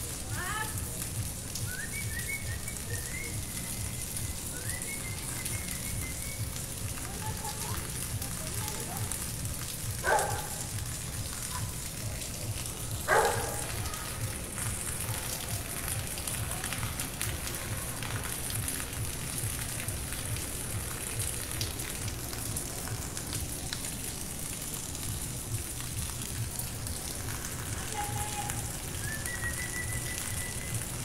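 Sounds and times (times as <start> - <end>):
steady rain on roofs: 0.0 - 31.0.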